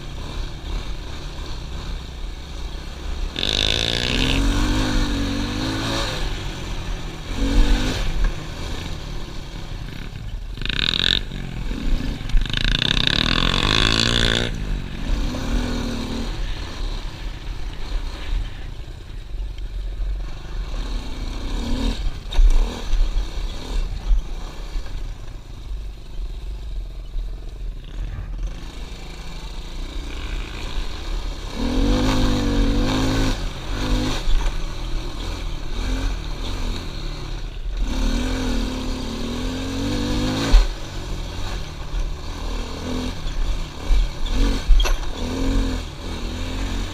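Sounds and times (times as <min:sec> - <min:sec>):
motorbike engine revving: 0:00.0 - 0:18.7, 0:20.1 - 0:25.2, 0:27.8 - 0:46.9.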